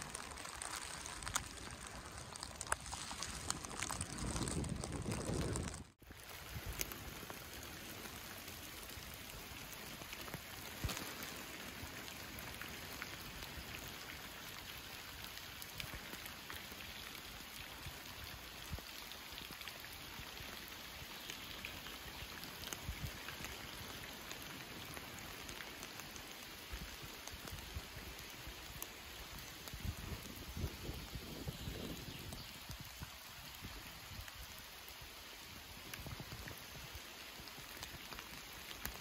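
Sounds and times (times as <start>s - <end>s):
rain falling on water and grass: 0.0s - 39.0s.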